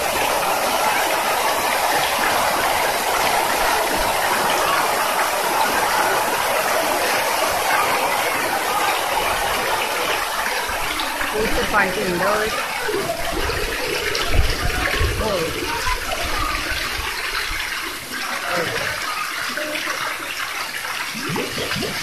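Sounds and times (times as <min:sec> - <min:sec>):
fountain splashing into pool: 0:00.0 - 0:22.0.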